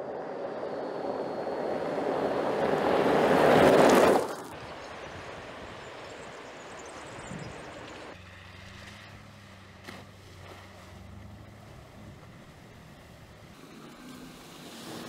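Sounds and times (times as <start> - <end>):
low engine hum: 0.0 - 15.0
tyres on gravel: 2.7 - 15.0.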